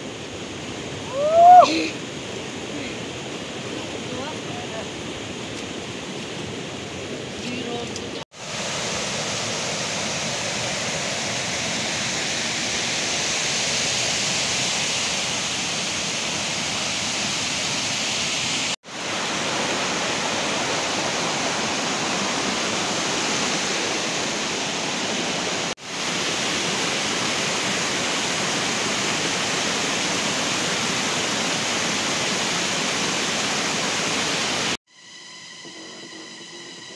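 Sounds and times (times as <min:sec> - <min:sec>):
stream rushing over rocks: 0:00.0 - 0:07.4, 0:08.3 - 0:34.8.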